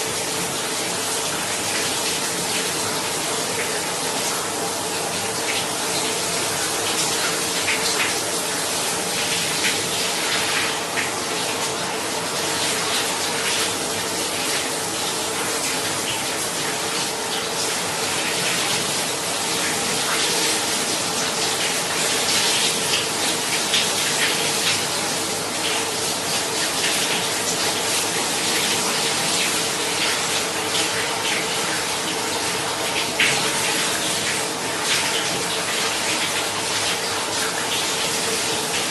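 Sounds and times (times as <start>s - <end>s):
faint plumbing hum: 0.0s - 38.9s
shower water running: 0.0s - 38.9s.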